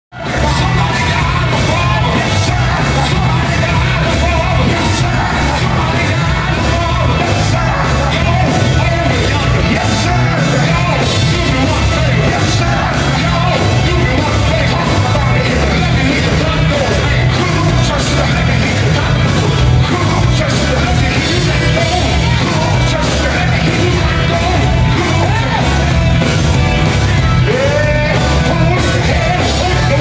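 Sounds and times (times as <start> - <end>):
live band with keyboard and drums: 0.1 - 30.0
men singing into microphones: 0.2 - 25.7, 27.4 - 30.0.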